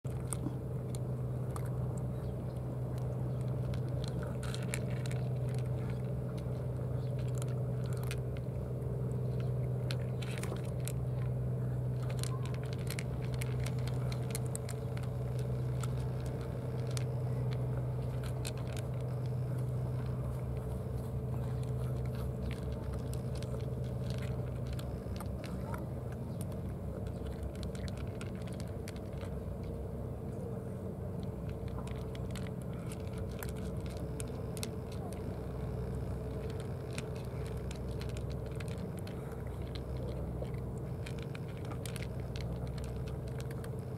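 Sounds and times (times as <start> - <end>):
low hum: 0.0 - 43.9
cats crunching dry kibble: 0.1 - 43.9.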